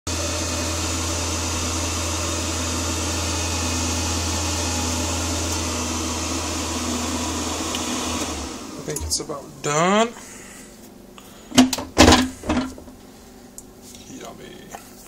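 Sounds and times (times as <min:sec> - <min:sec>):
air fryer fan humming: 0:00.1 - 0:13.5.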